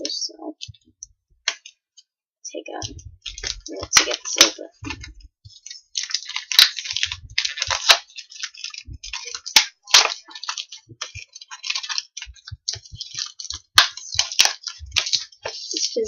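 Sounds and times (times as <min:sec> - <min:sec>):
packaging crinkling and crackling: 0:02.8 - 0:16.0.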